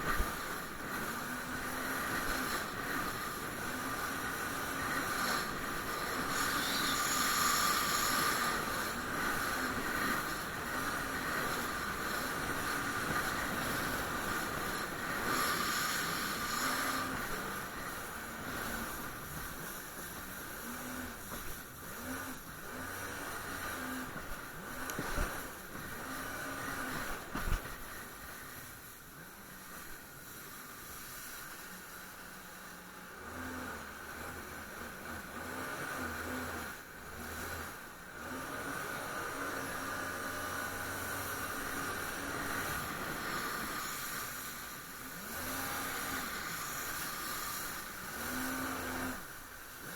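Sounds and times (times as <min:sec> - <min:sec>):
jet ski engine running: 0:00.0 - 0:49.9
wind and water hissing: 0:00.0 - 0:49.9.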